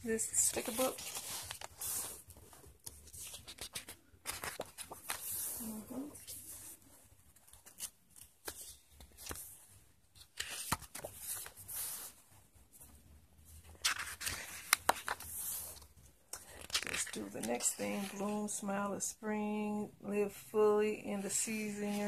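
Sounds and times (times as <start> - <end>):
paper pages turning and rustling: 0.0 - 18.8.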